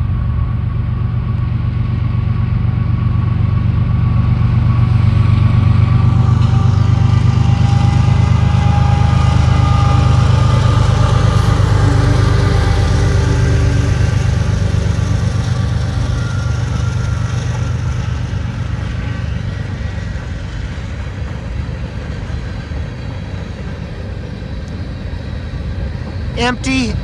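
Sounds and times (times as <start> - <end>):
freight cars rolling past: 0.0 - 26.4
diesel locomotive engine drone: 0.0 - 27.0.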